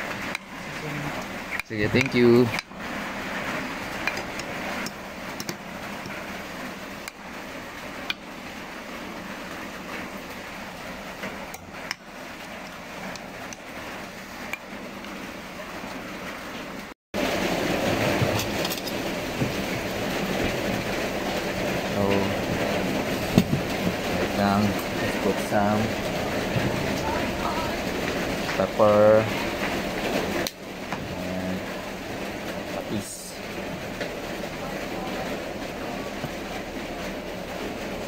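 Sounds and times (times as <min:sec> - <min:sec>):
rain hissing: 0:00.0 - 0:38.0.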